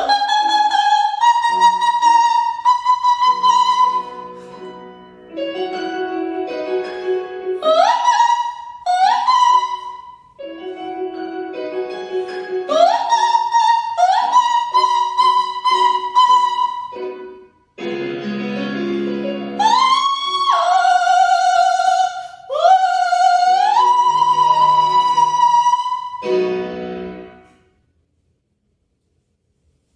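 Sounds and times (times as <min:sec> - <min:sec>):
soprano singing: 0:00.0 - 0:27.4
piano chords: 0:00.0 - 0:27.7.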